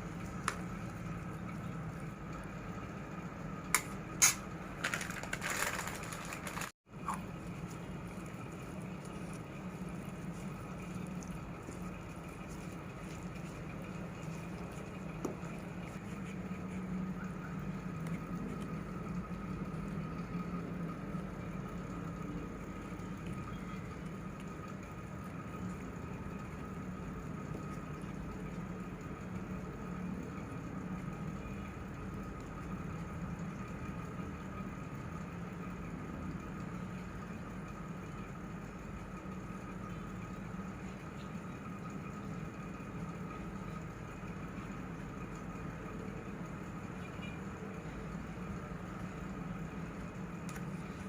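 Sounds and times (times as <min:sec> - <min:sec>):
mechanical hum: 0:00.0 - 0:51.0.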